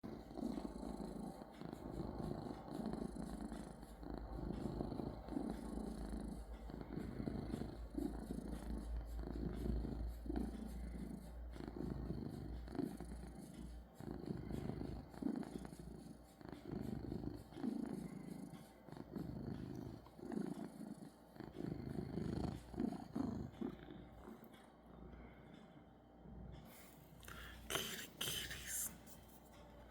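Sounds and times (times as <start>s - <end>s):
cat purring: 0.0s - 29.7s.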